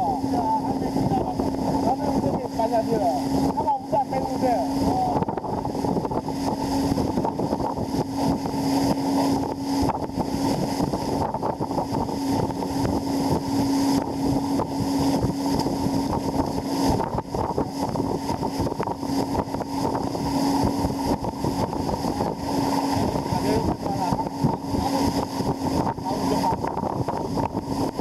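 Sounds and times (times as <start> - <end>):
motorboat engine hum: 0.0 - 28.0
wind buffeting microphone: 0.0 - 28.0.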